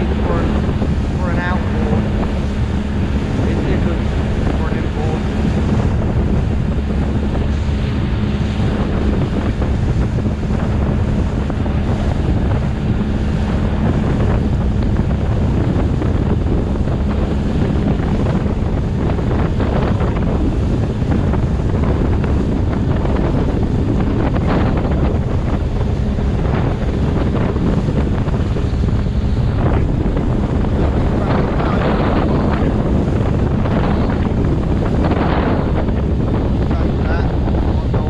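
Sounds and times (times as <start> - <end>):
outboard engine hum: 0.0 - 38.0
water slapping against hull: 0.0 - 38.0
wind noise on microphone: 0.0 - 38.0.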